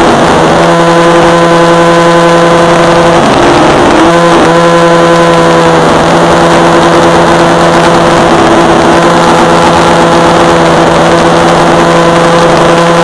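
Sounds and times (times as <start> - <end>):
rc helicopter rotor drone: 0.0 - 13.0.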